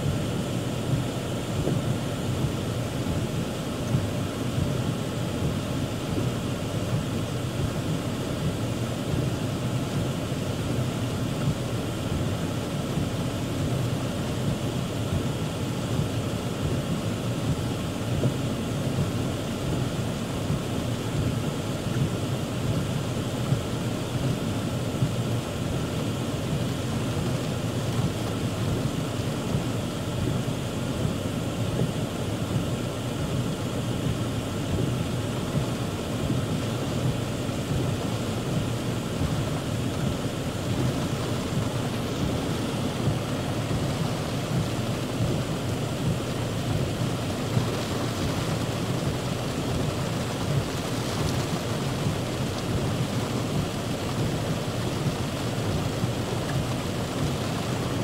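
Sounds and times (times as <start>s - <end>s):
heavy rain pouring: 0.1s - 58.0s.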